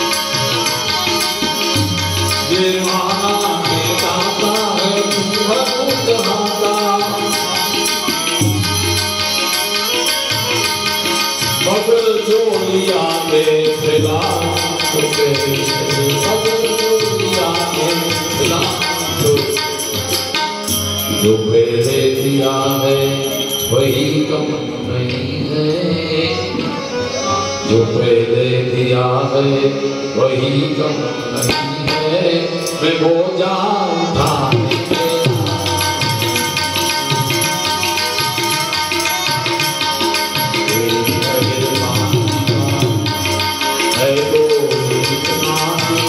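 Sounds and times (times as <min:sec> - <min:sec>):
percussion beat: 0:00.0 - 0:25.4, 0:31.4 - 0:33.0, 0:34.1 - 0:46.0
harmonium chords: 0:00.0 - 0:46.0
man singing: 0:00.0 - 0:46.0.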